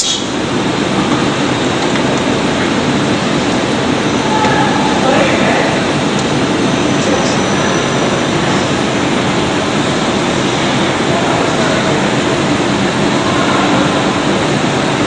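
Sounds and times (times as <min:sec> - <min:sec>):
loud rushing noise: 0:00.3 - 0:15.0.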